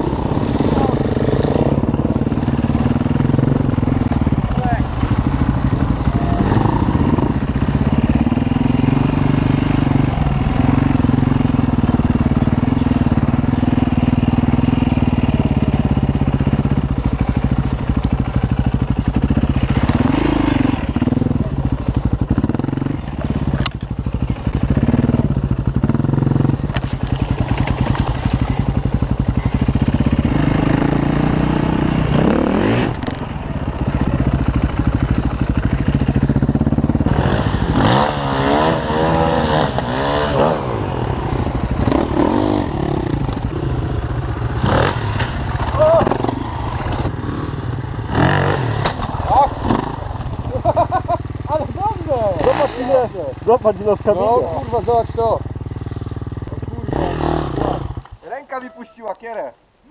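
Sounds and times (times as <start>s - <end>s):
dirt bike engine revving: 0.0s - 58.2s.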